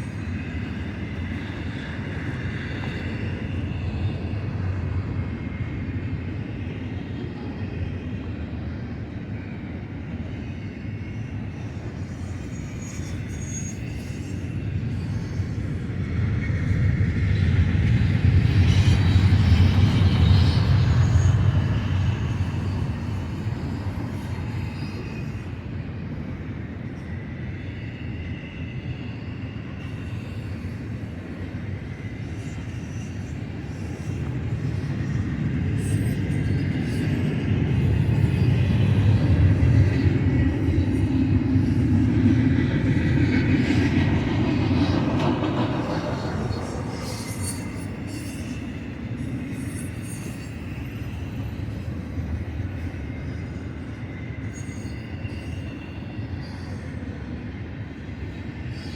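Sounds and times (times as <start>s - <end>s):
freight train wheels rumbling on rail: 0.0s - 58.9s.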